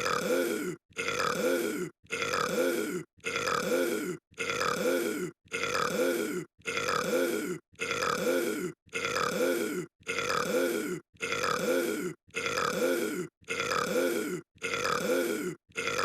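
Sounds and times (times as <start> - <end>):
deep croaky burp: 0.0 - 16.0.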